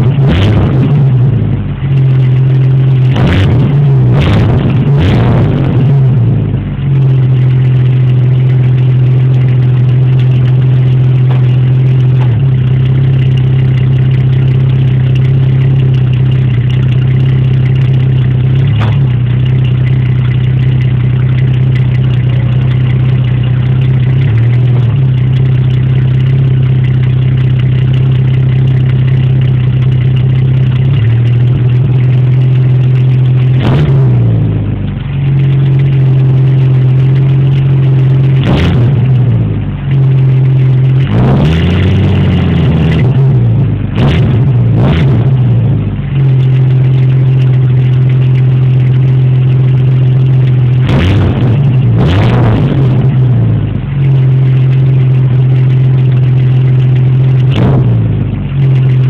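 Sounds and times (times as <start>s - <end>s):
car exhaust drone: 0.0s - 59.0s.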